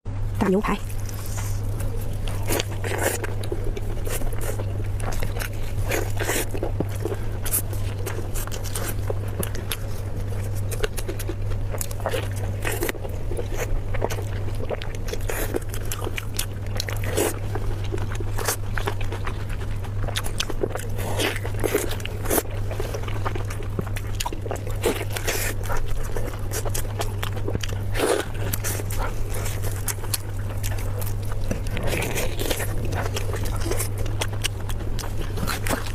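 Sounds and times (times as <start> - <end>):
steady low hum: 0.1 - 35.9
chewing and mouth clicks: 0.7 - 35.9
crunchy bites: 0.8 - 35.9.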